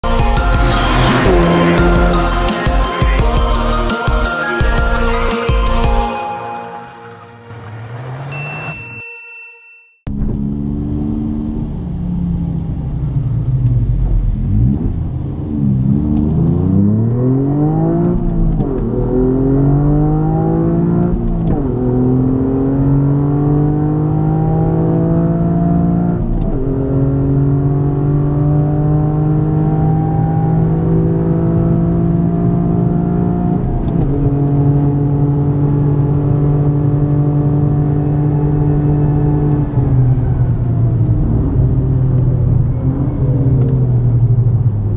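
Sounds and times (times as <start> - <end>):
car engine accelerating: 0.0 - 3.9, 7.1 - 8.4, 10.1 - 44.9.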